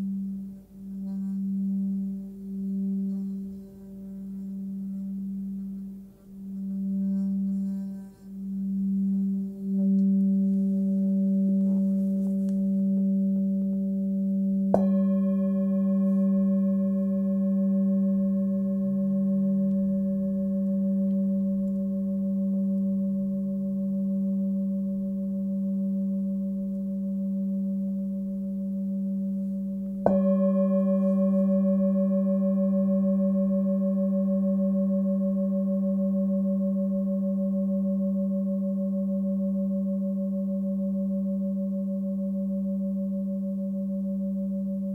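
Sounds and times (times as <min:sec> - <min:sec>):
singing bowl humming: 0:00.0 - 0:44.9
singing bowl strike: 0:06.5 - 0:44.9.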